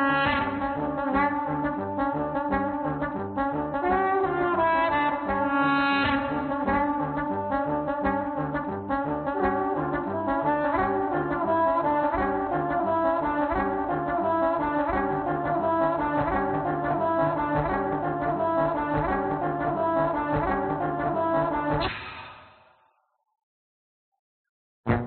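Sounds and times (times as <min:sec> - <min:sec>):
trombone playing: 0:00.0 - 0:21.9.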